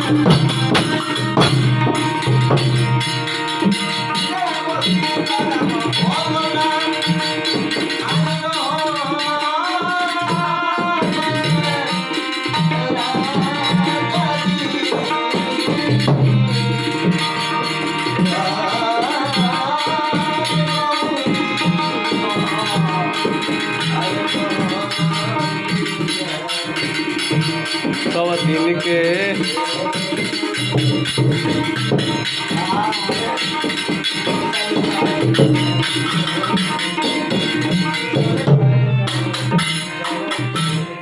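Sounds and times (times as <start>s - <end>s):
hand drums playing: 0.0s - 41.0s
person singing: 0.0s - 41.0s.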